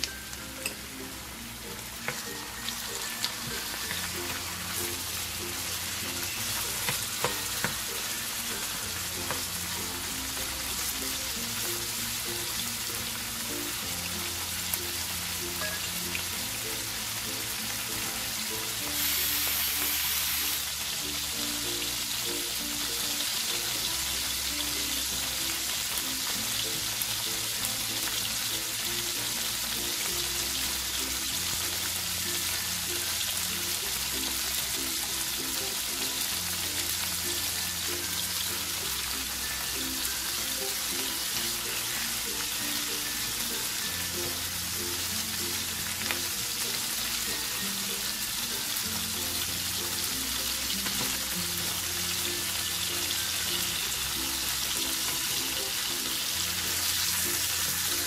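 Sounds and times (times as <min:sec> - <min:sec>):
food sizzling in hot oil: 0:00.0 - 0:58.0.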